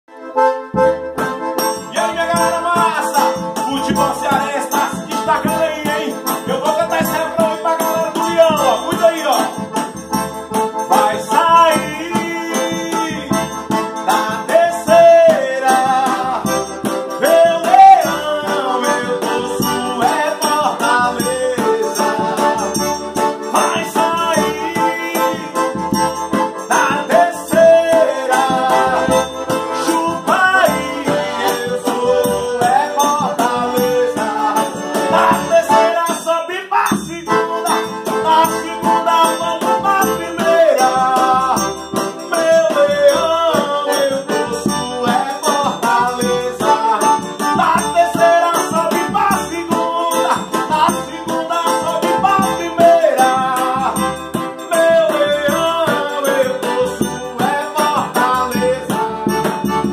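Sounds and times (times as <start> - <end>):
accordion playing: 0.0 - 59.9
drum beat: 0.8 - 36.2, 36.9 - 59.9
man singing: 1.7 - 9.9, 10.8 - 59.9.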